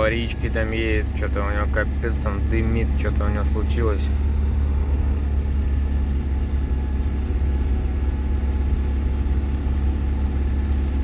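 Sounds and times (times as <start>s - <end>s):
road noise inside cab: 0.0s - 11.0s
van engine droning: 0.0s - 11.0s.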